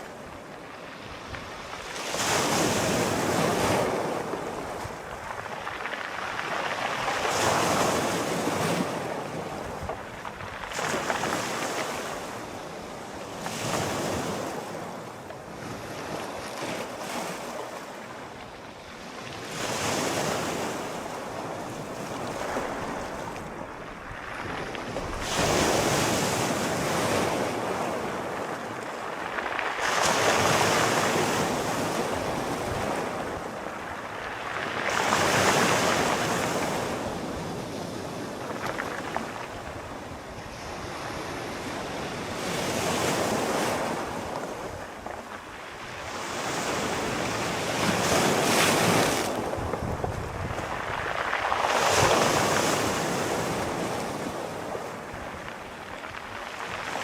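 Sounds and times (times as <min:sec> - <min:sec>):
sea waves breaking ashore: 0:00.0 - 0:57.0
wind noise on microphone: 0:00.0 - 0:57.0.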